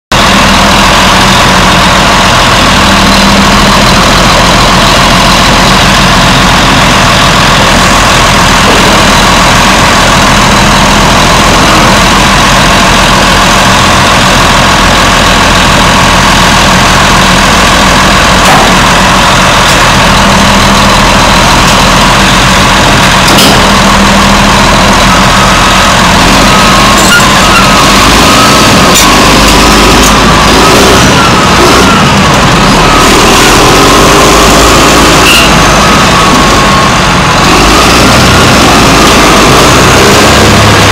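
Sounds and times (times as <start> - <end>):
bulldozer diesel engine idling: 0.1 - 40.9.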